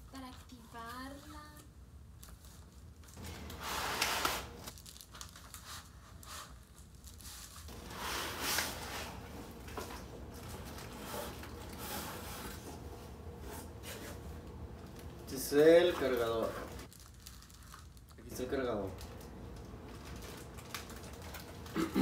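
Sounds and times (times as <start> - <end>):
cardboard and foam rustling: 2.2 - 21.8
paper crinkling: 2.2 - 21.8.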